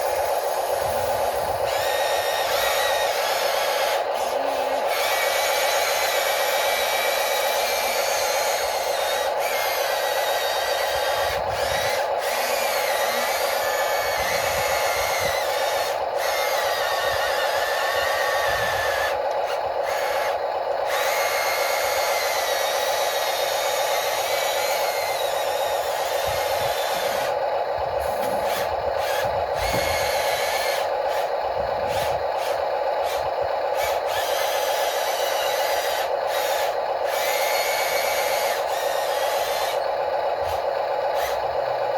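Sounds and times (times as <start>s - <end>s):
motor whine: 0.0s - 41.9s
small electric motors whirring: 0.0s - 41.9s.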